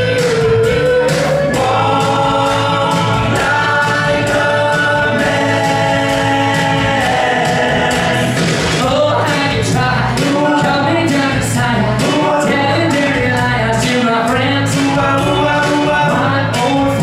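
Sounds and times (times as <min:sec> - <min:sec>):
men singing into microphones: 0:00.0 - 0:17.0
music with steady beat: 0:00.0 - 0:17.0.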